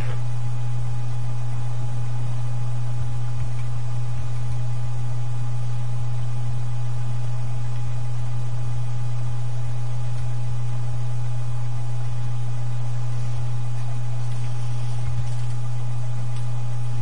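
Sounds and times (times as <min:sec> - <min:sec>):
faint high whine: 0:00.0 - 0:17.0
loud steady low hum: 0:00.0 - 0:17.0.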